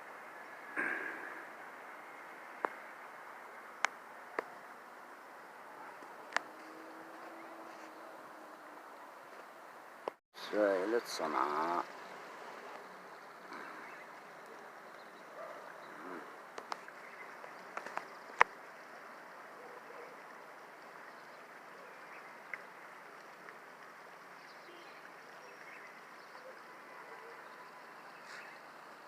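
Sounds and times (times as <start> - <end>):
floodwater running: 0.0 - 29.0.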